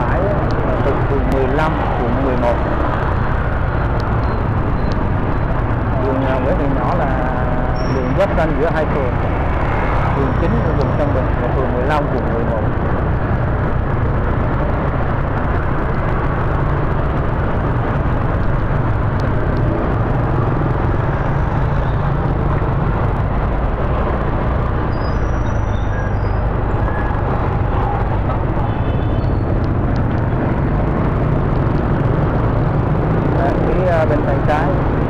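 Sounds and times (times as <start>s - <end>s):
wind and road rush: 0.0s - 35.0s.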